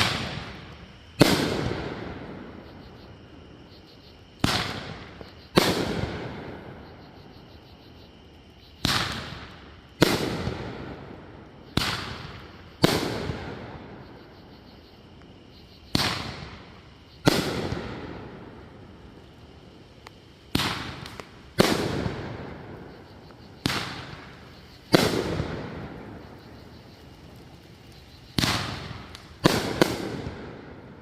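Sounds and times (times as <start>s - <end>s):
fireworks booming: 0.0s - 3.8s, 4.4s - 7.2s, 8.8s - 14.7s, 15.3s - 31.0s.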